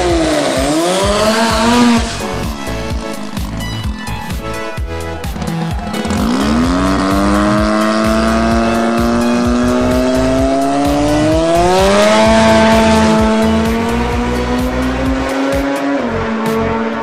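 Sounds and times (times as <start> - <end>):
music with low pulsing beat: 0.0 - 17.0
turbo rotary engine revving: 0.0 - 17.0.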